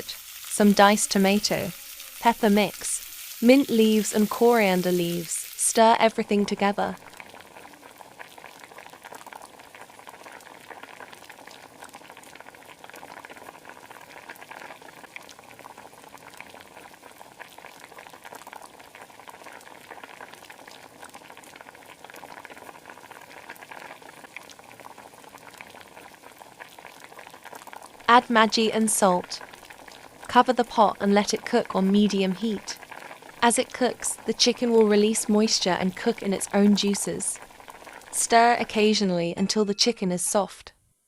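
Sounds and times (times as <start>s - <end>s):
pot simmering with pops: 0.0s - 40.5s.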